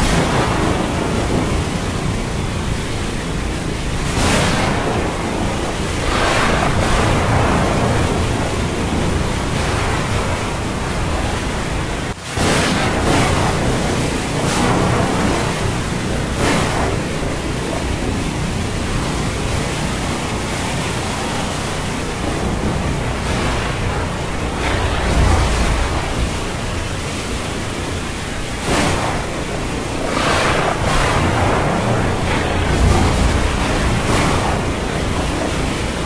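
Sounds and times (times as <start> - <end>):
waves breaking: 0.0 - 36.0
wind: 0.0 - 36.0.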